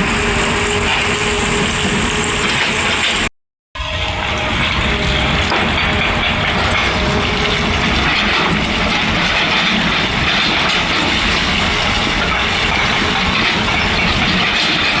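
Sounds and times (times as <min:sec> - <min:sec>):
excavator working: 0:00.0 - 0:15.0.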